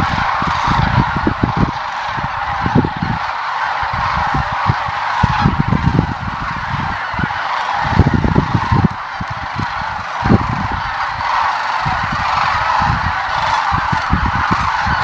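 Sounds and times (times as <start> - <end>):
cranes and geese honking: 0.0 - 15.0
wind rumble on microphone: 0.0 - 15.0.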